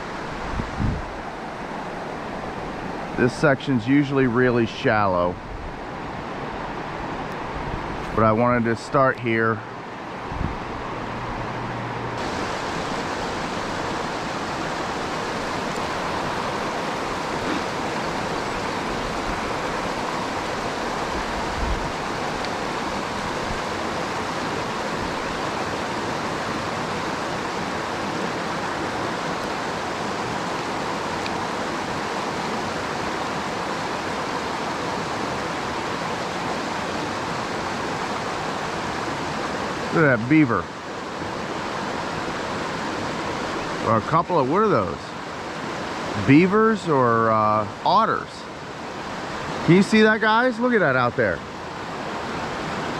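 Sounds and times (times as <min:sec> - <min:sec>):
creek water rushing over riffle: 0:00.0 - 0:52.9.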